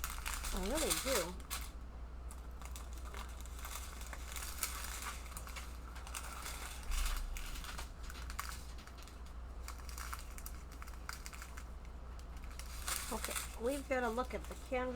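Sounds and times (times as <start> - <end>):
plastic packaging crinkling: 0.0 - 14.9.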